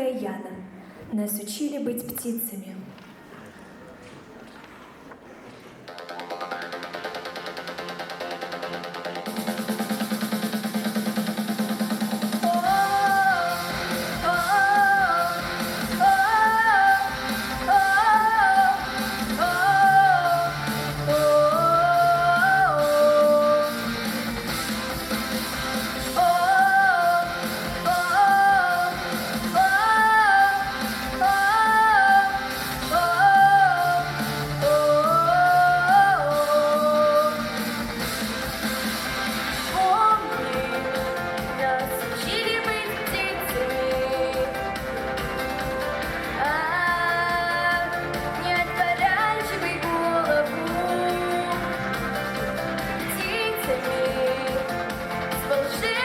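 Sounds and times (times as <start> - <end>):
pop song: 5.9 - 56.0.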